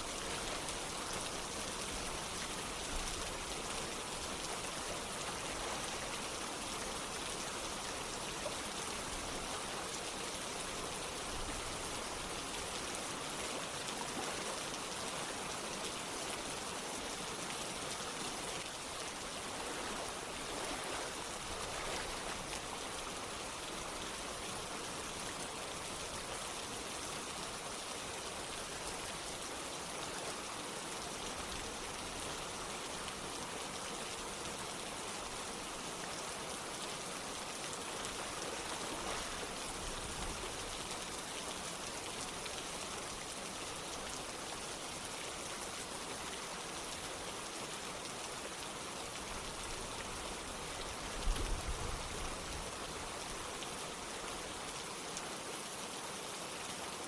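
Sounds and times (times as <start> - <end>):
running water: 0.0 - 57.0
steady rain: 0.0 - 57.0.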